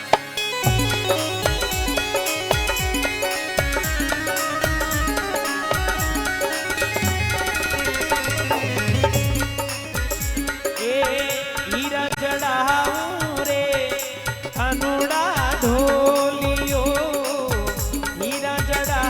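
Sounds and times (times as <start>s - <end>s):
folk devotional song melody: 0.0s - 19.0s
hand drum beat: 0.6s - 12.1s, 12.7s - 19.0s.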